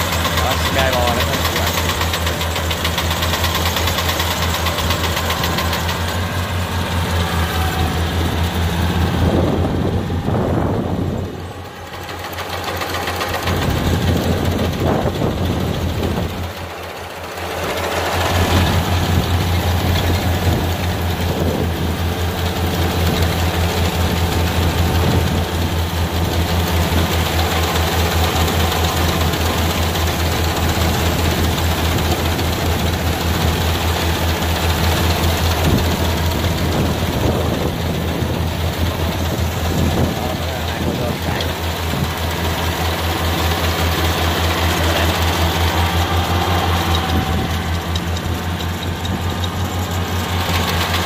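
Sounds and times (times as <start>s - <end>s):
combine harvester diesel engine: 0.0s - 51.0s.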